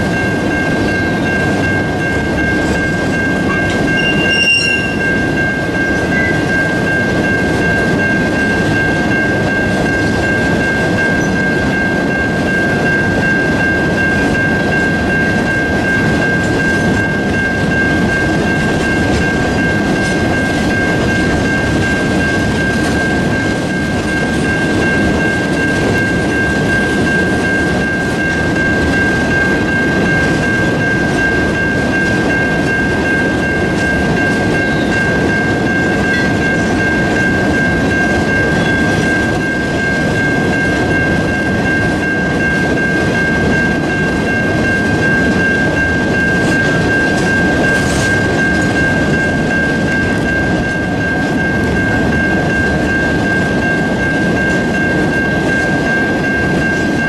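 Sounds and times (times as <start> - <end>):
steady high-pitched tone: 0.0 - 57.0
train wheels rolling on rails: 0.0 - 57.0.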